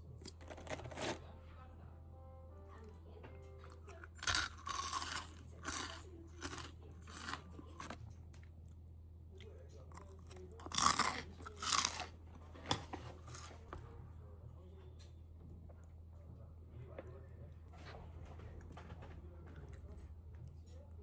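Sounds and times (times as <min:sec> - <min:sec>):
crunchy food being chewed: 0:00.0 - 0:01.3, 0:03.6 - 0:21.0
low steady hum: 0:00.0 - 0:21.0.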